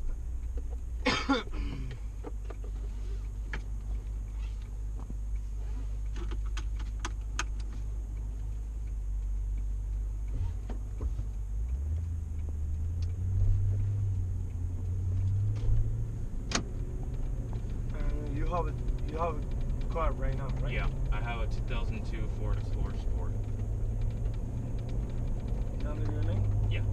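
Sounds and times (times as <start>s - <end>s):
vehicle rumble from inside cabin: 0.0s - 26.9s.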